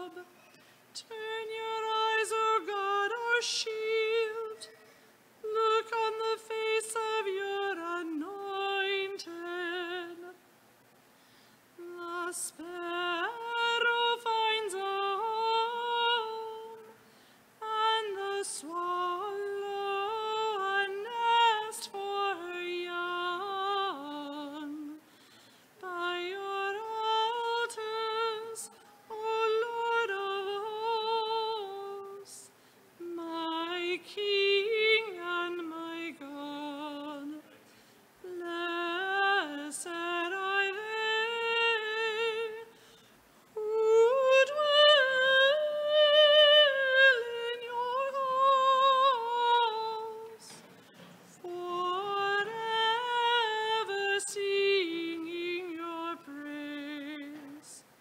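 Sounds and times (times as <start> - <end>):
woman singing a hymn: 0.0 - 10.4, 11.8 - 37.6, 38.2 - 58.0.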